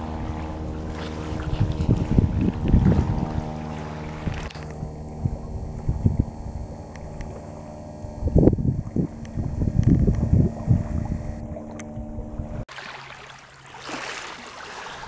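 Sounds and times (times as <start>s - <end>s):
propeller plane engine hum: 0.0s - 12.7s
wind buffeting microphone: 0.0s - 12.7s.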